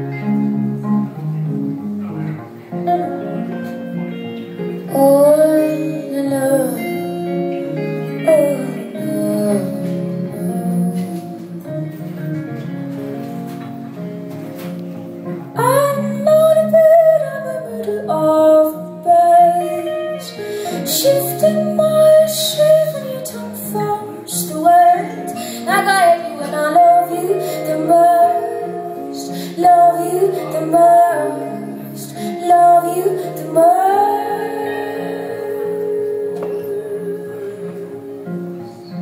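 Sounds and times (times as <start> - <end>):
acoustic guitar chords: 0.0 - 39.0
woman singing: 2.8 - 4.2, 4.8 - 12.3, 15.5 - 38.9.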